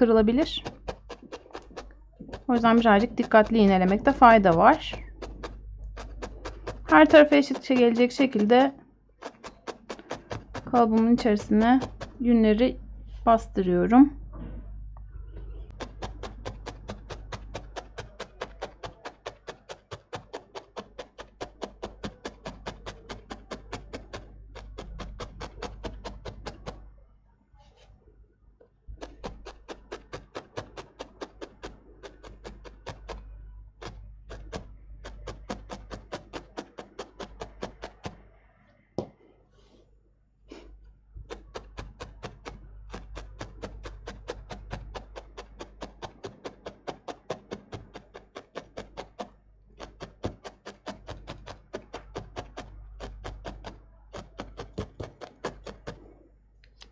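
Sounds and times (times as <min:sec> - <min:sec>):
felting needle soft ticks: 0:00.0 - 0:14.1, 0:15.0 - 0:26.9, 0:28.9 - 0:38.4, 0:41.2 - 0:56.9.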